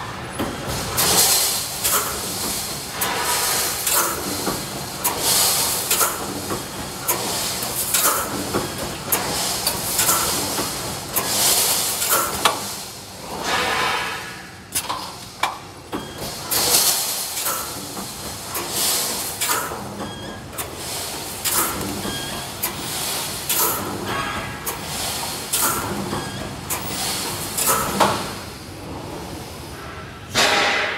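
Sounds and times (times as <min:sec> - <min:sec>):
welding machine hissing: 0:00.1 - 0:28.7.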